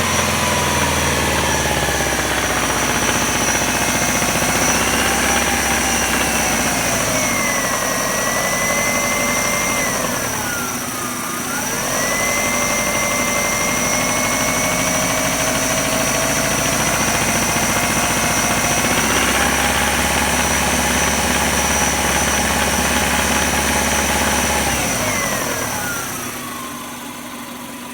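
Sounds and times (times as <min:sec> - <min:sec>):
car engine revving: 0:00.0 - 0:26.2.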